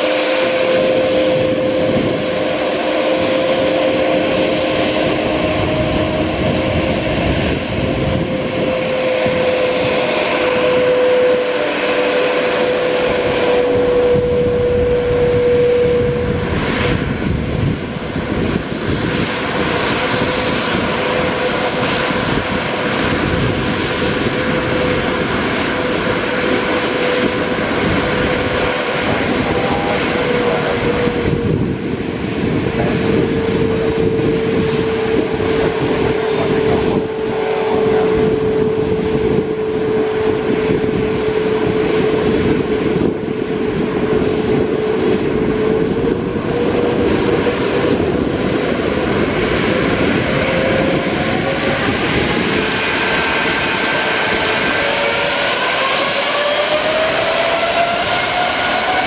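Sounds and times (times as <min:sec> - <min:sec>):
broad engine rumble: 0:00.0 - 0:59.0
jet engine whine: 0:00.0 - 0:59.0.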